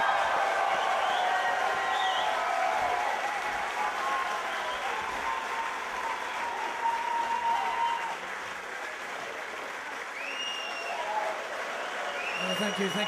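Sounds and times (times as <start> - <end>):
audience applauding and cheering: 0.0 - 13.0.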